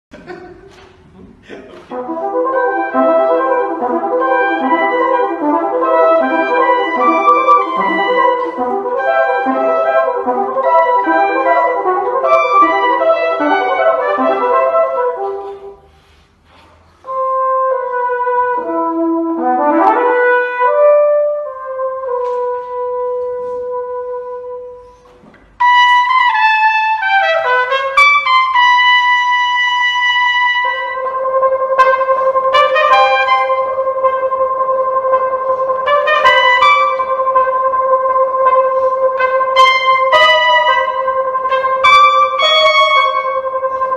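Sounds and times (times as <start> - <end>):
flugelhorn and trumpet playing: 1.8 - 16.2, 17.0 - 43.9.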